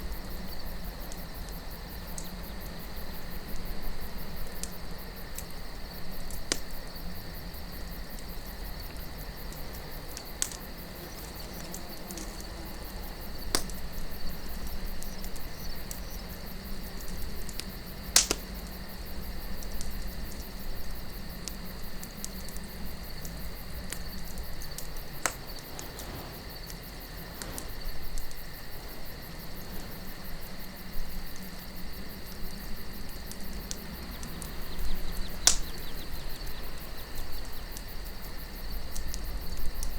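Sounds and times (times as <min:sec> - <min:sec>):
campfire crackling and popping: 0:00.0 - 0:39.9
crickets chirping: 0:00.0 - 0:39.9
low wind rumble: 0:00.0 - 0:39.9.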